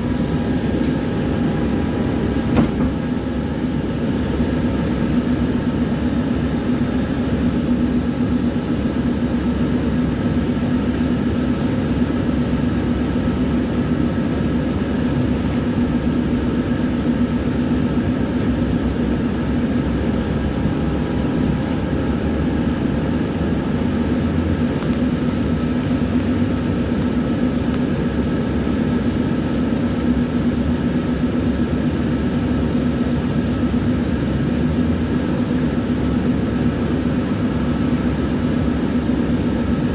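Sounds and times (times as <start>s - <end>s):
tram running on rails: 0.0s - 39.9s.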